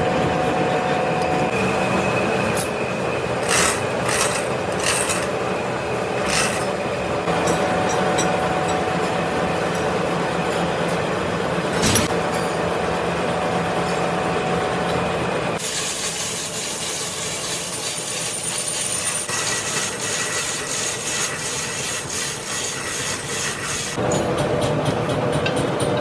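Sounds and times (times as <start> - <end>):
metalworking machinery running: 0.0 - 26.0.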